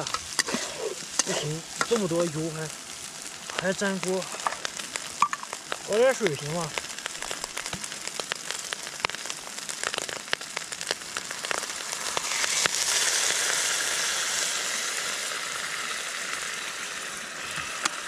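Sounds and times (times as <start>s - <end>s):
oil crackling in a wok: 0.0s - 18.0s
water sizzling into steam: 0.0s - 18.0s.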